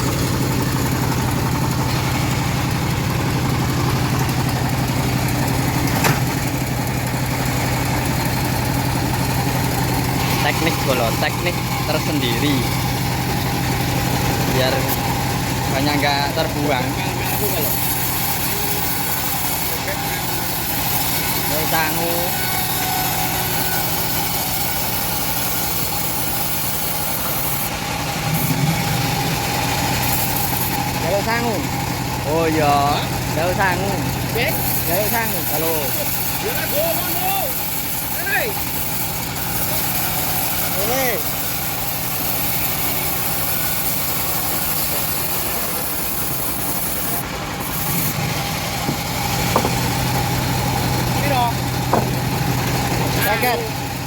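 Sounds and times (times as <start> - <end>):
bandsaw engine drone: 0.0 - 54.0.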